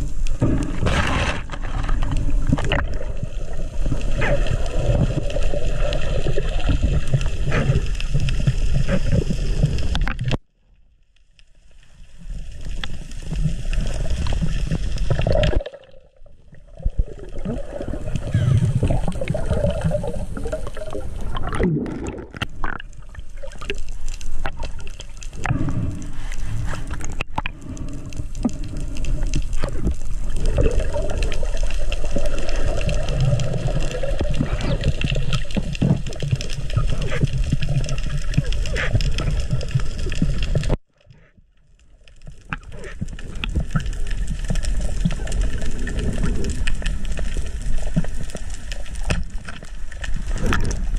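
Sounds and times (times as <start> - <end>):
underwater water rush: 0.0 - 10.4, 11.4 - 40.8, 41.7 - 50.9.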